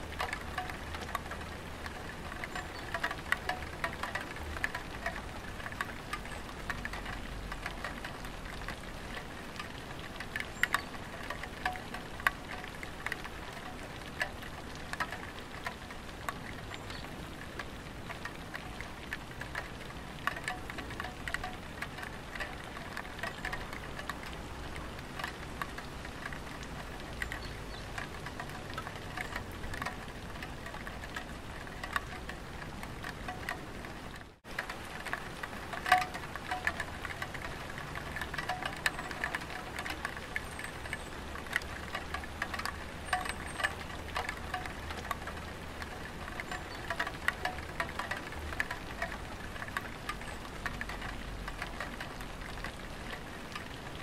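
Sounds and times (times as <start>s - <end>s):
light rain on tiled roof: 0.0s - 54.0s
sharp drip ticks: 0.0s - 54.0s.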